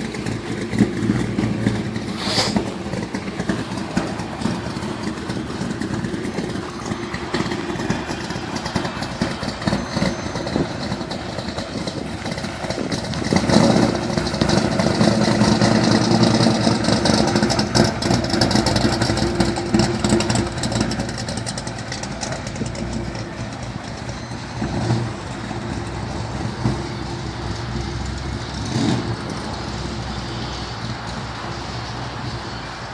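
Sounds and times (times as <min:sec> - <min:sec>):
car engine loping idle: 0:00.0 - 0:32.9.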